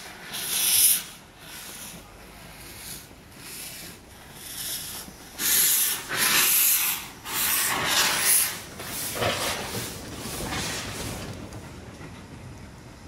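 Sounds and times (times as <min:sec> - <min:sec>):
steam hissing from drain cocks: 0:00.0 - 0:11.4
steam locomotive chuffing: 0:00.0 - 0:13.0.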